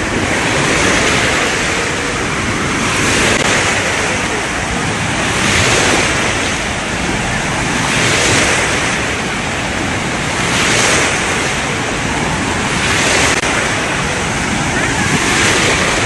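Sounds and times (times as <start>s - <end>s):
waves crashing: 0.0s - 16.0s.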